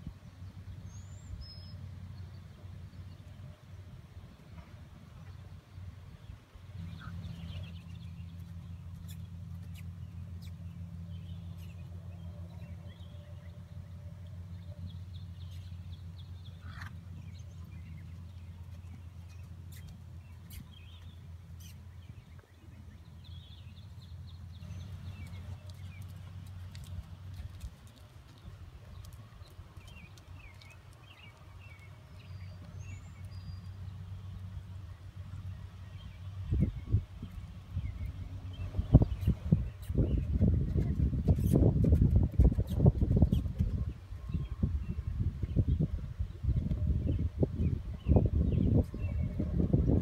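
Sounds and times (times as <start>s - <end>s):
small birds chirping: 5.2s - 50.0s.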